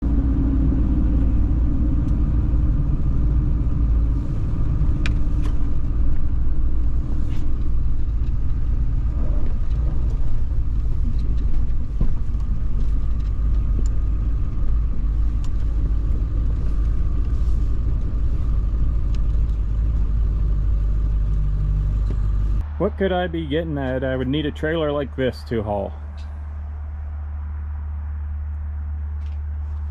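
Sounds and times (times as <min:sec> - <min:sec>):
vehicle engine and road rumble: 0:00.0 - 0:29.9.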